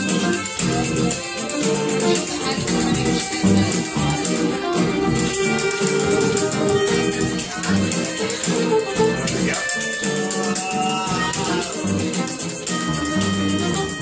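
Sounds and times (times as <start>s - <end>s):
guitar: 0.0s - 14.0s
upright bass: 0.0s - 14.0s.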